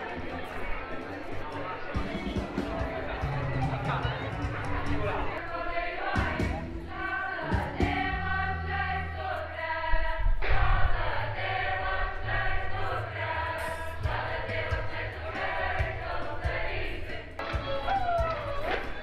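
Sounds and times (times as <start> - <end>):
mixed choir singing: 0.0 - 19.0.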